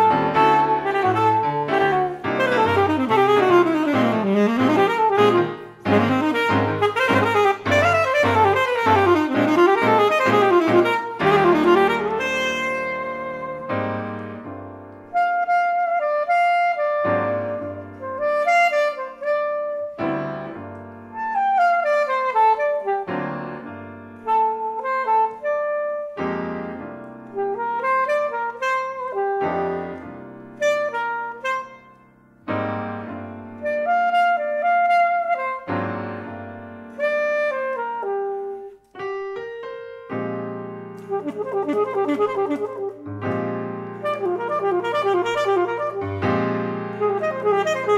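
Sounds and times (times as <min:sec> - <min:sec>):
alto saxophone: 0:00.0 - 0:47.9
piano chords: 0:00.0 - 0:47.9.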